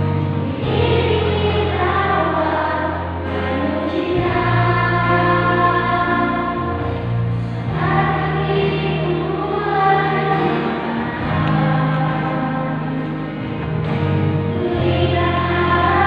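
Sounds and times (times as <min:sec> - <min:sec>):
low held accompaniment: 0:00.0 - 0:16.0
children's choir singing: 0:00.3 - 0:16.0.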